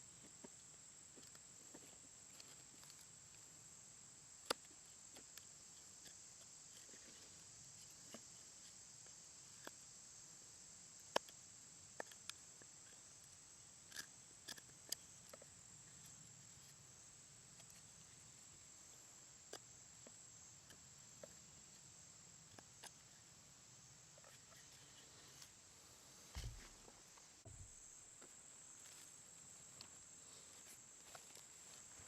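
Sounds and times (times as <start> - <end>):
faint insects chirring: 0.0 - 32.0.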